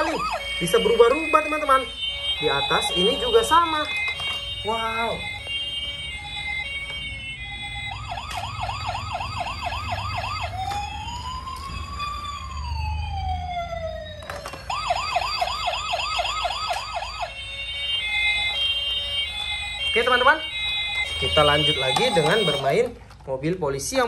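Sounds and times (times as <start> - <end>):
toy police siren: 0.0 - 23.0.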